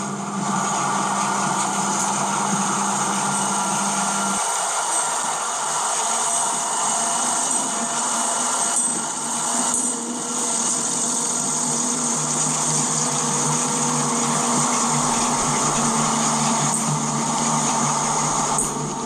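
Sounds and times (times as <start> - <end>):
model train motor whine: 0.0 - 19.0.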